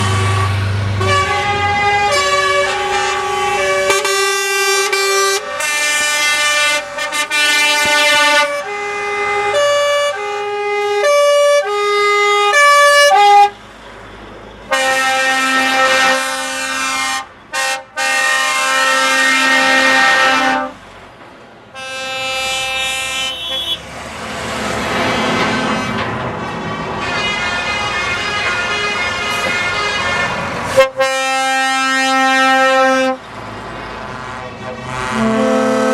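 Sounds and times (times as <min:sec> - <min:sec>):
long truck horn blast: 0:00.0 - 0:13.6, 0:14.7 - 0:20.8, 0:21.7 - 0:26.2, 0:27.0 - 0:33.3, 0:33.9 - 0:35.9
musical truck horn playing tune: 0:00.0 - 0:13.6, 0:14.7 - 0:20.8, 0:21.8 - 0:23.8, 0:25.0 - 0:26.1, 0:27.0 - 0:33.2, 0:34.1 - 0:35.9.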